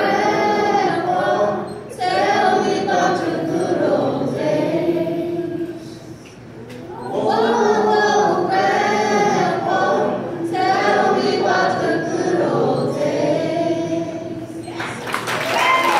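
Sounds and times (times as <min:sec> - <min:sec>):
children's choir singing: 0:00.0 - 0:06.3, 0:06.9 - 0:15.0.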